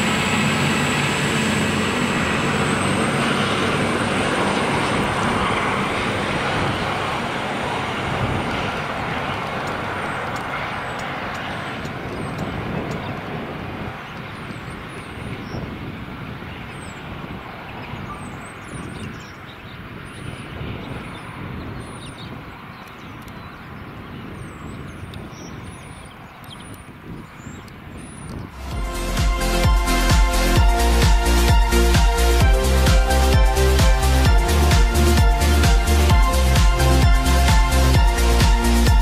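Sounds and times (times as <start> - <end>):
diesel train engine drone: 0.0 - 23.8, 28.2 - 39.0.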